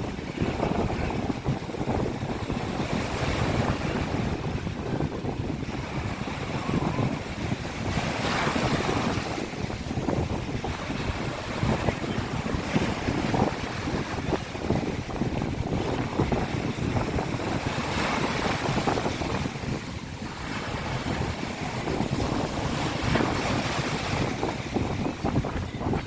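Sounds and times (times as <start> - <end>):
sea waves washing onto beach: 0.0 - 26.0
wind buffeting microphone: 0.0 - 26.0.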